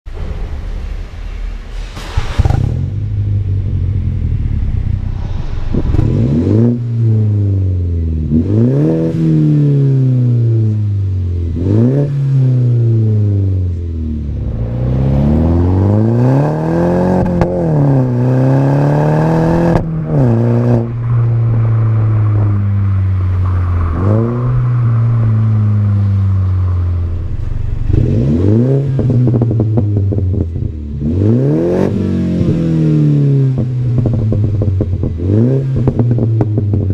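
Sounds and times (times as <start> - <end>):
car engine idling: 0.1 - 8.8, 9.8 - 31.5, 32.2 - 36.9
car engine revving: 0.5 - 36.9.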